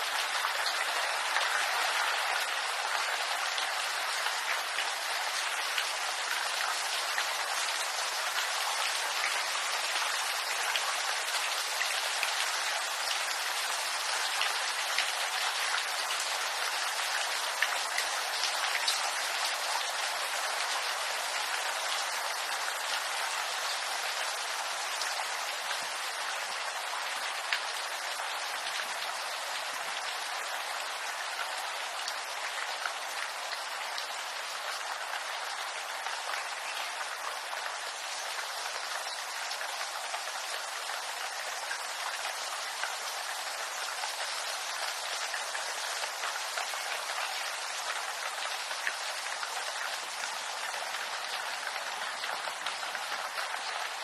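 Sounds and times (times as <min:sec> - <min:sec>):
rain falling on bamboo: 0:00.0 - 0:54.0.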